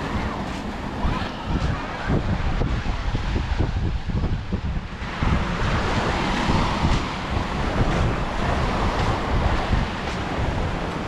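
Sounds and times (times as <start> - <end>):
small waves washing up beach: 0.0 - 11.0
wind buffeting microphone: 0.0 - 11.0.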